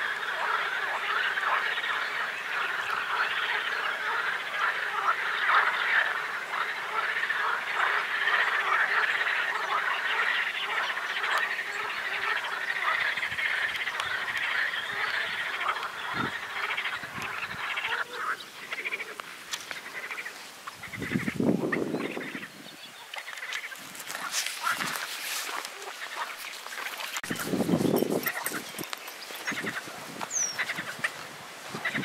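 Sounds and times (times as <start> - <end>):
chorus of frogs croaking: 0.0 - 32.0.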